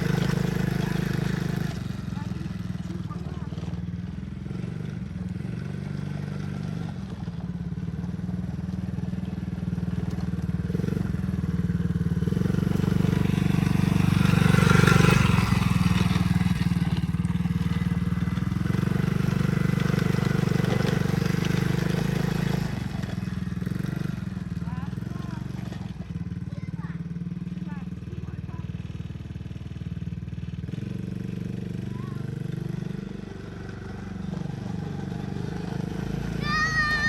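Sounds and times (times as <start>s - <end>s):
small four-stroke engine running: 0.0s - 37.0s.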